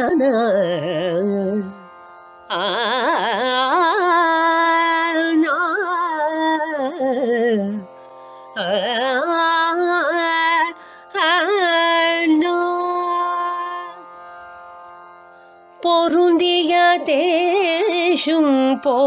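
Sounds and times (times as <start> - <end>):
woman singing: 0.0 - 1.9, 2.5 - 8.0, 8.6 - 14.2, 15.8 - 19.0.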